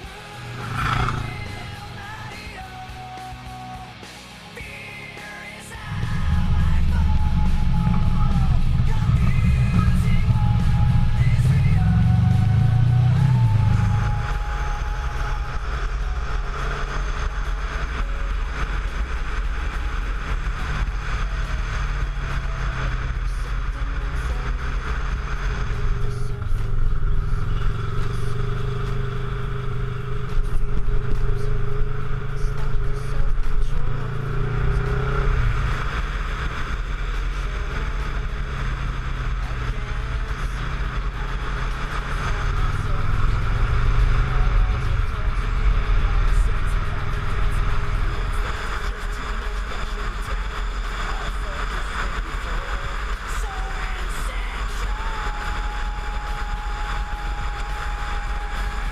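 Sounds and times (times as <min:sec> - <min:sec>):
motorcycle engine droning: 0:00.0 - 0:58.9.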